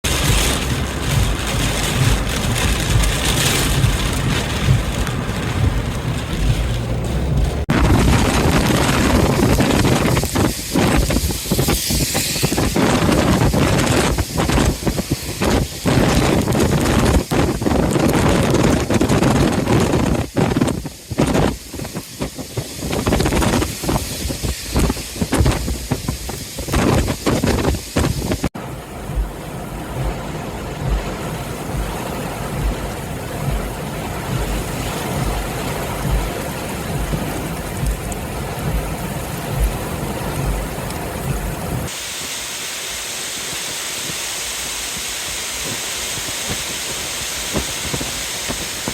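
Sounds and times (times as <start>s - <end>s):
wind buffeting microphone: 0.0s - 42.0s, 43.5s - 48.9s
heavy rain: 0.0s - 48.9s
strong wind: 0.0s - 48.9s.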